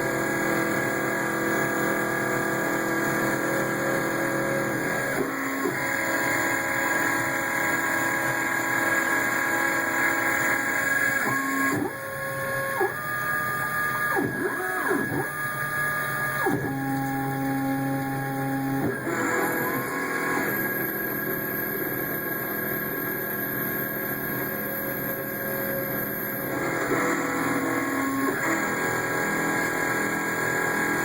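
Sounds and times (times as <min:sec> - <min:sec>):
milling machine motors whining: 0:00.0 - 0:31.0.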